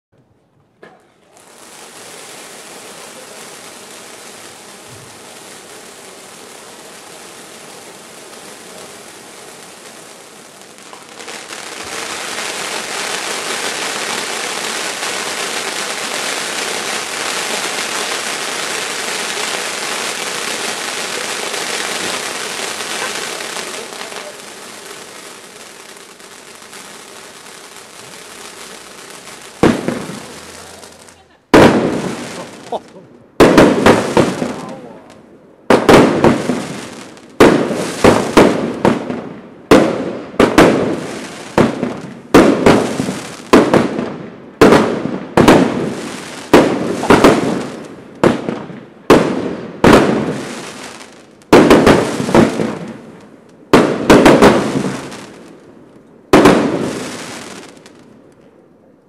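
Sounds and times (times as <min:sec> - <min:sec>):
firework bang: 0:00.8 - 0:06.7, 0:07.4 - 0:34.9, 0:35.7 - 0:55.7, 0:56.3 - 0:58.2
ground firework crackling hiss: 0:00.8 - 0:58.4.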